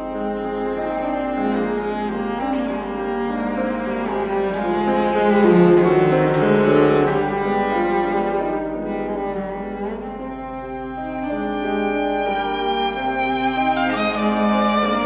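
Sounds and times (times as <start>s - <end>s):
bowed cello melody: 0.0s - 15.0s
piano trio playing chamber music: 0.0s - 15.0s.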